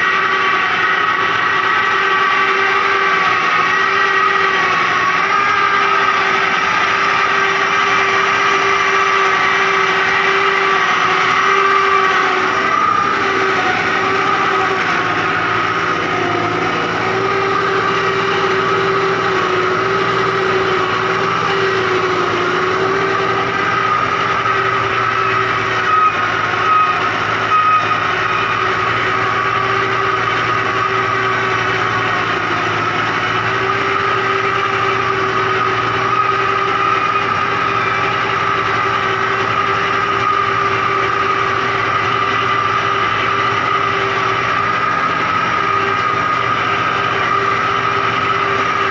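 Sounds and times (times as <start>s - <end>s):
mechanical whine: 0.0s - 48.9s
tractor diesel engine running: 0.0s - 48.9s.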